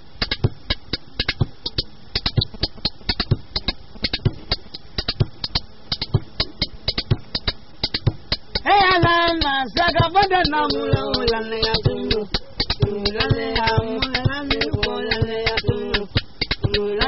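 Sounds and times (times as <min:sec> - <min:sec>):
fast hand percussion: 0:00.2 - 0:17.0
deep drum beat: 0:02.2 - 0:16.8.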